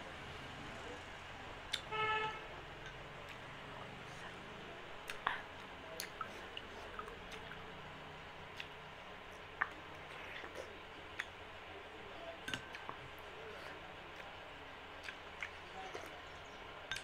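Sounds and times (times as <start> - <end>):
person chewing soft food: 2.7 - 17.0.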